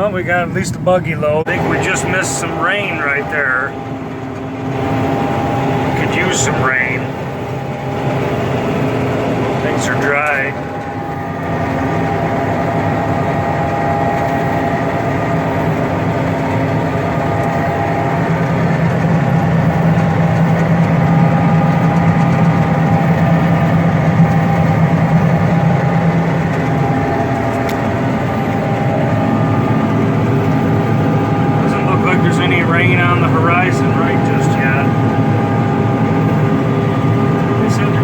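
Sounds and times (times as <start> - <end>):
combine harvester hum: 0.0 - 38.0.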